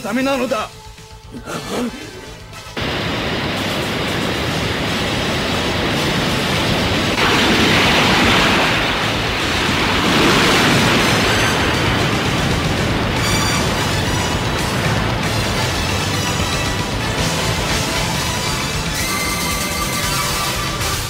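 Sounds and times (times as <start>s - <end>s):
seawater rushing: 1.8s - 21.0s.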